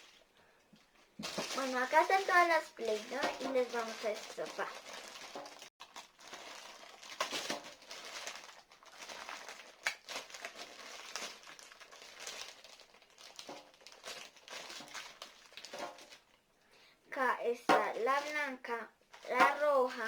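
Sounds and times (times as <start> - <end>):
plastic packaging crinkling: 0.0 - 16.4, 18.0 - 20.0.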